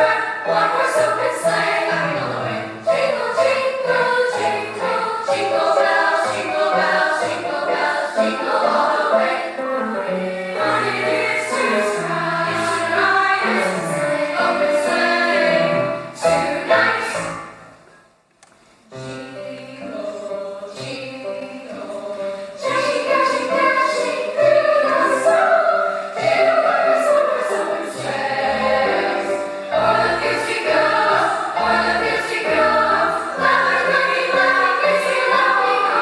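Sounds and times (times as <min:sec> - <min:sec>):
choir singing in harmony: 0:00.0 - 0:17.8, 0:18.9 - 0:36.0.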